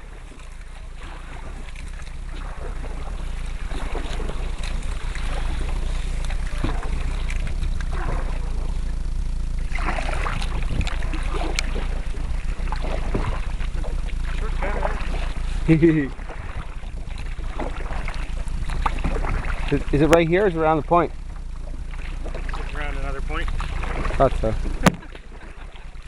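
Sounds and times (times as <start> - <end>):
paddles splashing in water: 0.0 - 26.0
wind rumble on microphone: 0.0 - 26.0.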